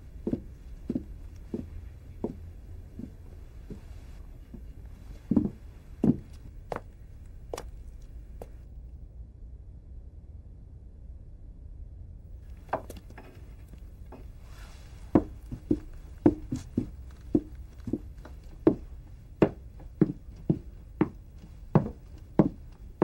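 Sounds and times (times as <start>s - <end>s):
footsteps on hard floor: 0.1s - 8.6s, 12.4s - 23.0s.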